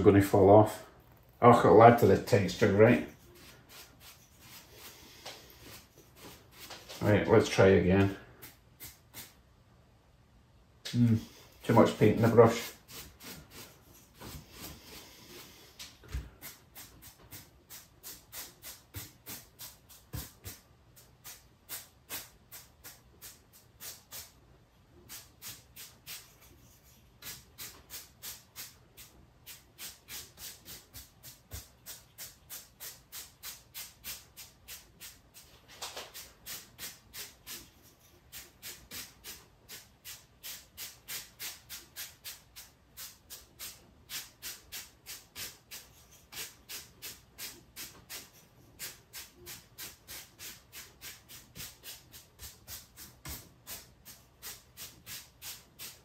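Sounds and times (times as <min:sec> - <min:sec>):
paint brush swishing on styrofoam: 0:01.4 - 0:09.4, 0:11.2 - 0:24.4, 0:25.0 - 0:56.0.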